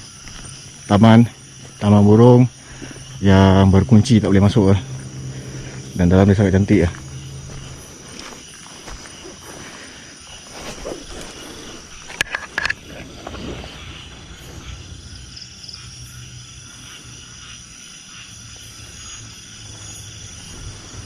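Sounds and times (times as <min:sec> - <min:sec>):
night insects trilling: 0:00.0 - 0:21.0.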